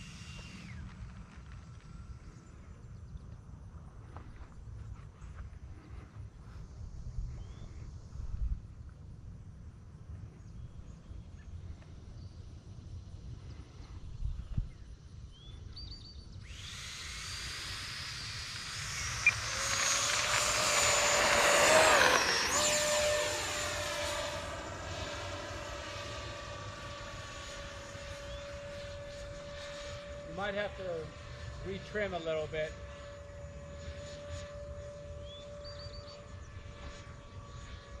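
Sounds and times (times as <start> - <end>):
electric fan high whine: 0.0 - 38.0.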